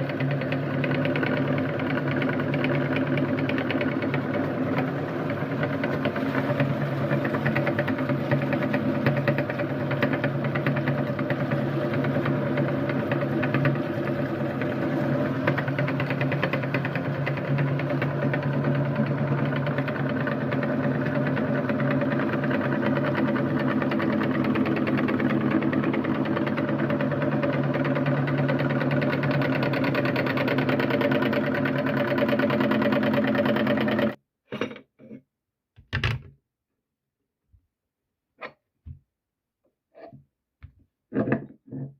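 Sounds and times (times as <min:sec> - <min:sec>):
meat grinder motor humming: 0:00.0 - 0:34.2.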